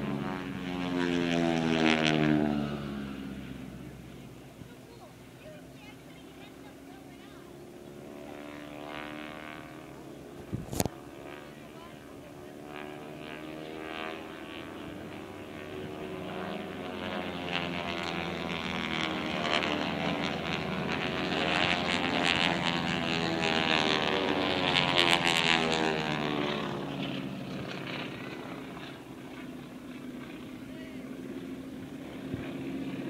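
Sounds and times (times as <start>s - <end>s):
aerobatic planes flying over: 0.0s - 33.0s.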